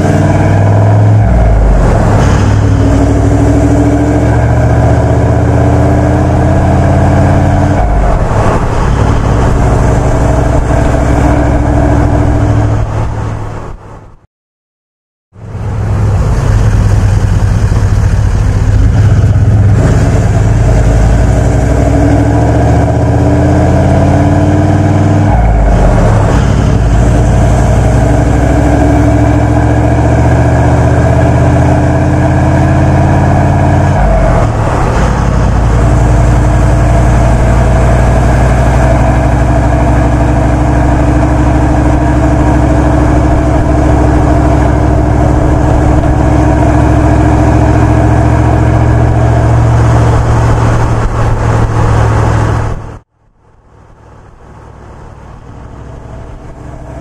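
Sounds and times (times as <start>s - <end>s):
diesel engine driving: 0.0s - 14.2s, 15.3s - 57.0s.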